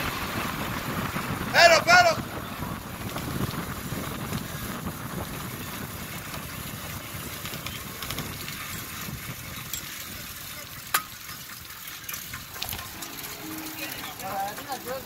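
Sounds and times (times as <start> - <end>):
bicycle tyres humming on asphalt: 0.0 - 15.0
wind buffeting microphone: 0.0 - 15.0.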